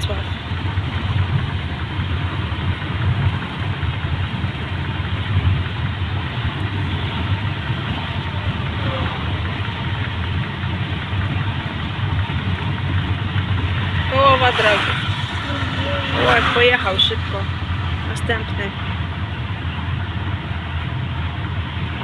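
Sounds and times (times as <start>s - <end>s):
car engine: 0.0s - 22.0s
road rumble: 0.0s - 22.0s.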